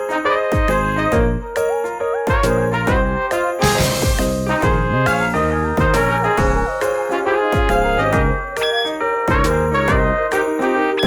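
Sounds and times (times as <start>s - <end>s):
upbeat music with chiming tones: 0.0s - 11.0s
steady drum beat: 0.6s - 1.6s, 2.3s - 10.7s.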